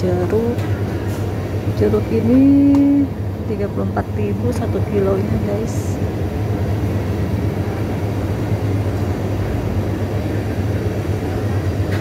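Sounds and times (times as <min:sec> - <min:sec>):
low droning machinery hum: 0:00.0 - 0:12.0.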